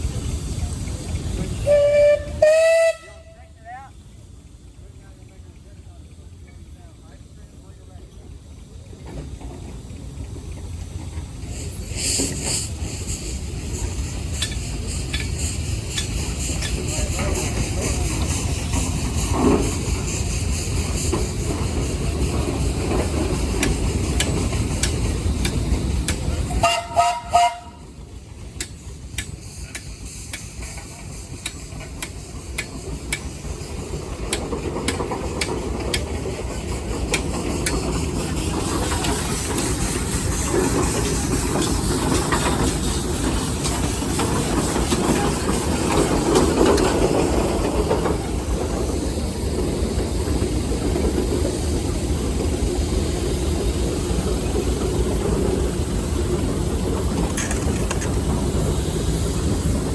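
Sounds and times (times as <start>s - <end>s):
steam engine hissing: 0.0s - 59.9s.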